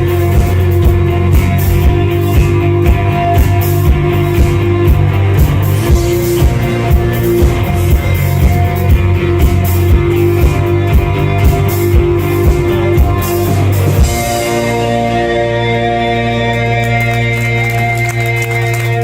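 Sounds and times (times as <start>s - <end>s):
drum kit beat: 0.0s - 16.7s
loud electric guitars: 0.0s - 19.0s.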